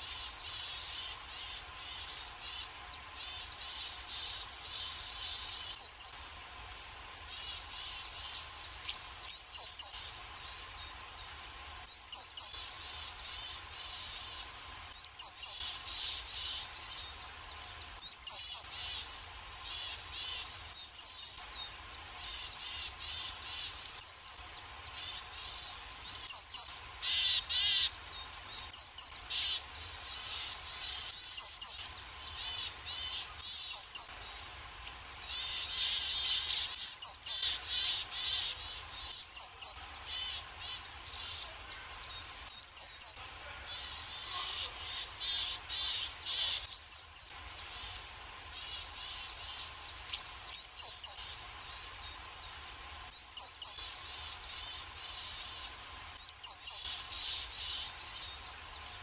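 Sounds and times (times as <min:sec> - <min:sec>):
soft bird twittering: 0:00.0 - 0:59.0.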